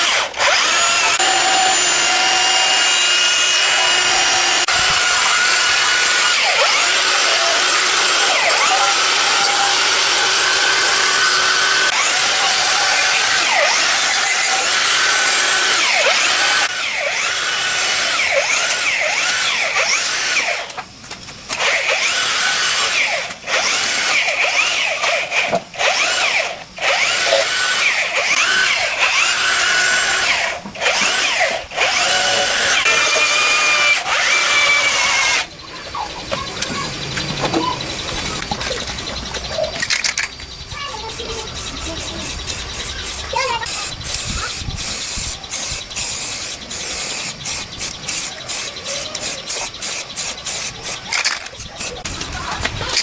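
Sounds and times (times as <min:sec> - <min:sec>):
handheld power tool running: 0:00.0 - 0:20.8, 0:21.5 - 0:35.6, 0:36.3 - 0:53.0.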